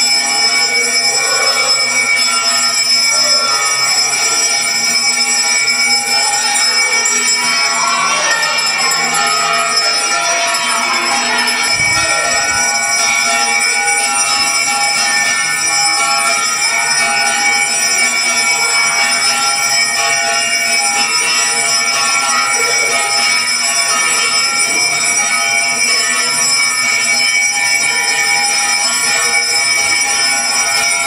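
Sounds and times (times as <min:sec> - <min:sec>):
temple bells ringing: 0:00.0 - 0:31.0.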